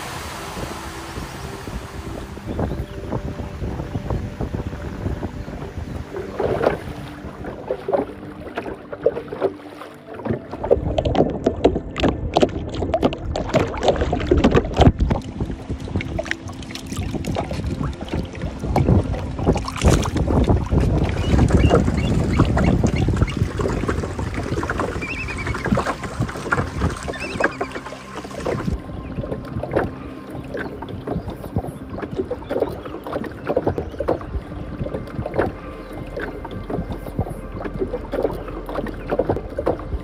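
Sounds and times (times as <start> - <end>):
water lapping against boat hull: 0.0 - 40.0
wind on microphone: 0.0 - 40.0.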